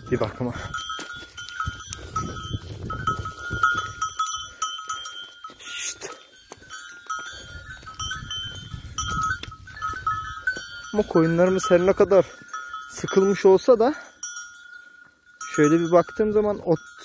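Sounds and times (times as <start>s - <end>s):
sheep bells clinking: 0.0s - 17.0s.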